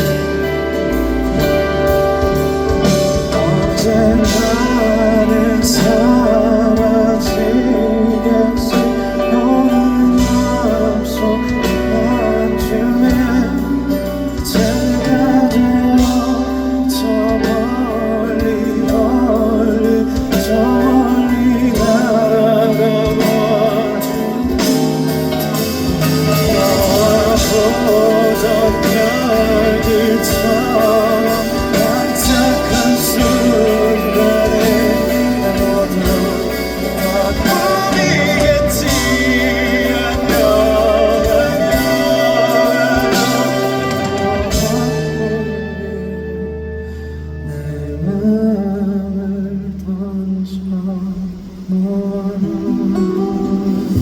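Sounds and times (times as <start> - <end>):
live band playing slow ballad: 0.0 - 54.0
man singing: 0.0 - 54.0.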